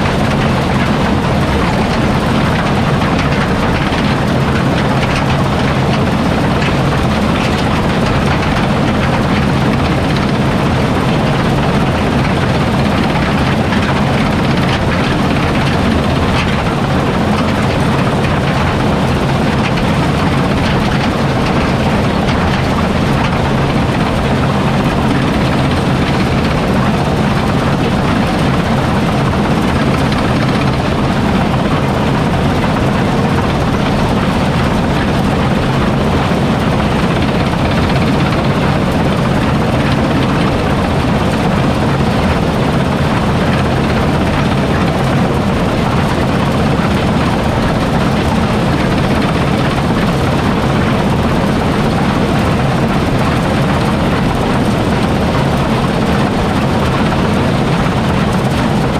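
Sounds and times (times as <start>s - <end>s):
diesel engine drone: 0.0s - 58.9s.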